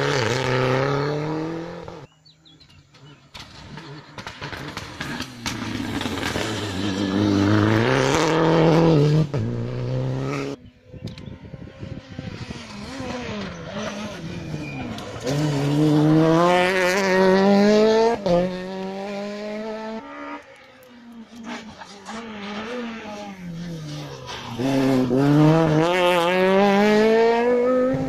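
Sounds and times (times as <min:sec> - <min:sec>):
car accelerating through gears: 0:00.0 - 0:02.1, 0:03.0 - 0:10.6, 0:11.5 - 0:28.0
rally car engines revving: 0:00.0 - 0:28.0.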